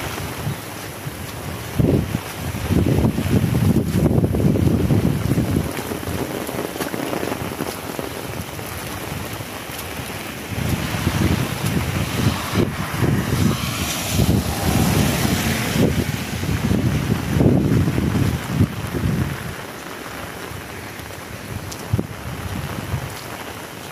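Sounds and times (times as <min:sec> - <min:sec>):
wind buffeting microphone: 0:00.0 - 0:23.8
heavy rain: 0:00.0 - 0:23.9.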